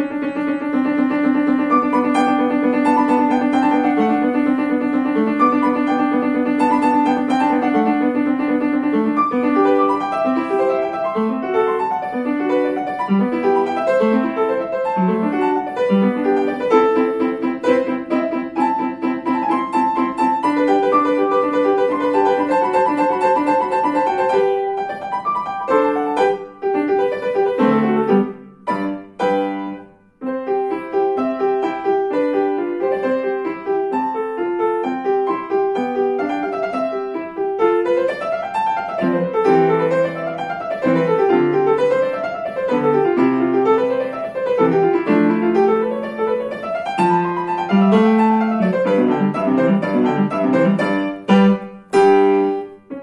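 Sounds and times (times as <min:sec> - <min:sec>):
upright piano playing: 0:00.0 - 0:53.0.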